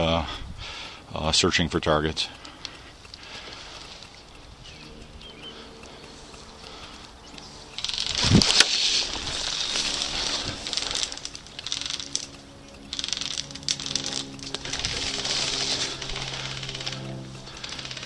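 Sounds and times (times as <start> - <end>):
rapid clicks: 1.8 - 18.0.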